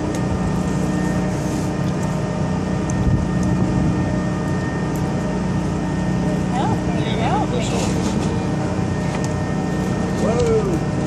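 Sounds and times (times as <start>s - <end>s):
ship engine droning: 0.0s - 11.0s.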